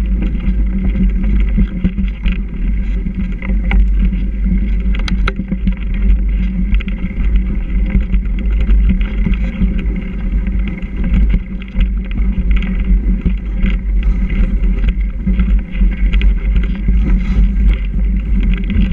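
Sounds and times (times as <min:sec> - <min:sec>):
bike knocks and rattles: 0:00.0 - 0:18.9
bike tyres rolling: 0:00.0 - 0:18.9
wind rumble on microphone: 0:00.0 - 0:18.9.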